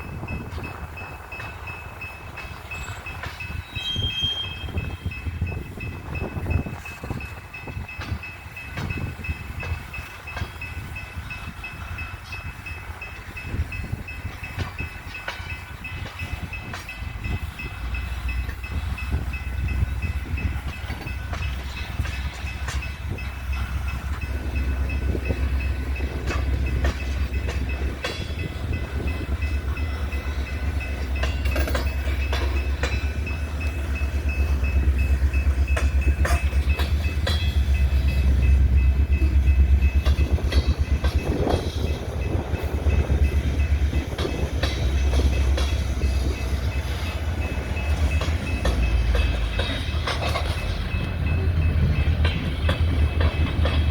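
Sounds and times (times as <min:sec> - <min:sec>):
train rumbling past: 0:00.0 - 0:53.9
wheels clicking over rail joints: 0:00.0 - 0:53.9.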